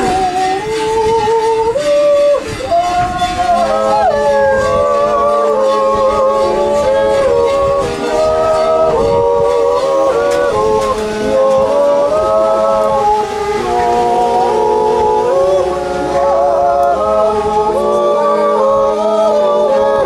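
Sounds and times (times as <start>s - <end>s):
group yodeling in harmony: 0.0s - 20.0s
low held vocal note: 0.0s - 20.0s.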